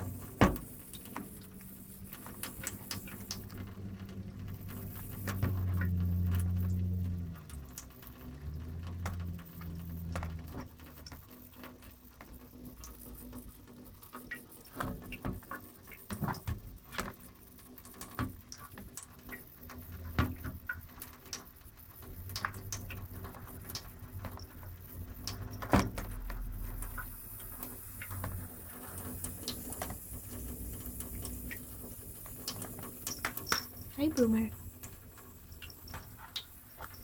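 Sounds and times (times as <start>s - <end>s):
faucet water splashing: 0.0s - 37.0s.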